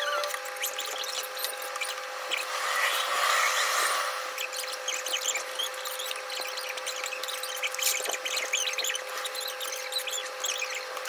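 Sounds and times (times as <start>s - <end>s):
plastic keyboard switches squeaking: 0.2s - 2.4s, 4.4s - 11.0s.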